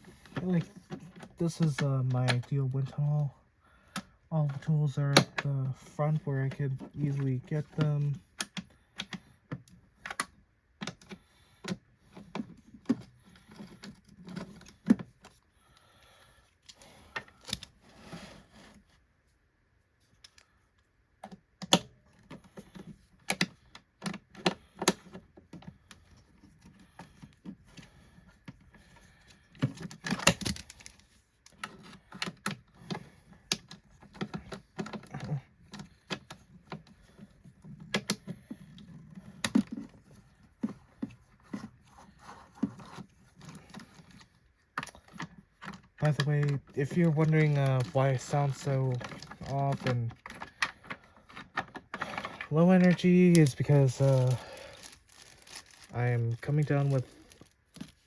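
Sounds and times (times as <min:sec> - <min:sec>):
plastic parts clicking and rattling: 0:00.0 - 0:03.2, 0:03.9 - 0:15.5, 0:16.5 - 0:18.9, 0:20.0 - 0:58.0.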